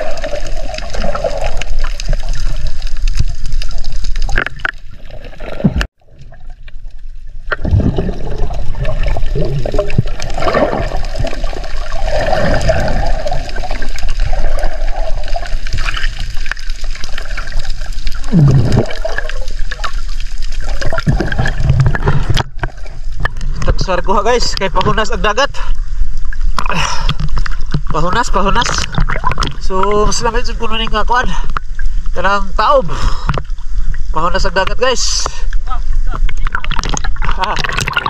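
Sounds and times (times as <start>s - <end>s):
underwater water sloshing and gurgling: 0.0s - 38.0s.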